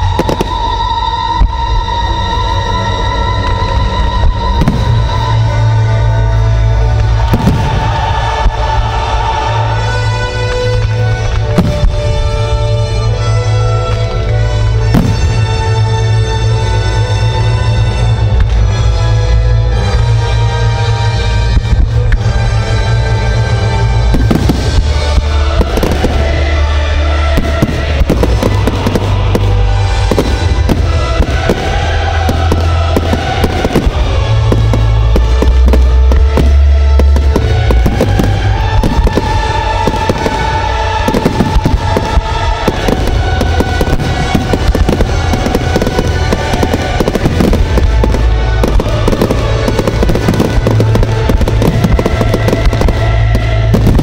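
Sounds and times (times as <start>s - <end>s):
fireworks bursting and crackling: 0.0s - 2.1s, 3.5s - 16.9s, 24.0s - 54.0s
loud music: 0.0s - 54.0s.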